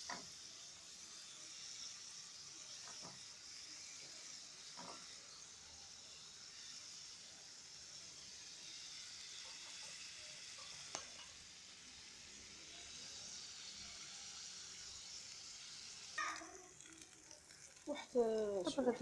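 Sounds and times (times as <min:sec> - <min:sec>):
meat and onions sizzling: 0:00.0 - 0:19.0.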